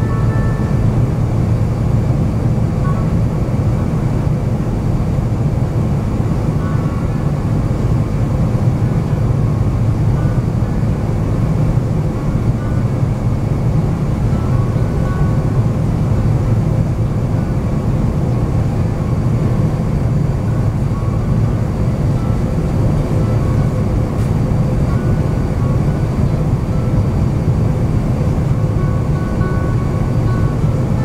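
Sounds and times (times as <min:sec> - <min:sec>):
aircraft engine rumble in cabin: 0:00.0 - 0:31.0
airflow noise: 0:00.0 - 0:31.0.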